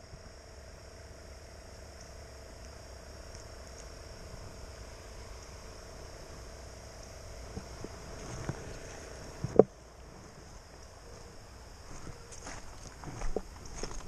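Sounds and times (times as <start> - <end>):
faint drone of insects: 0.0 - 14.0.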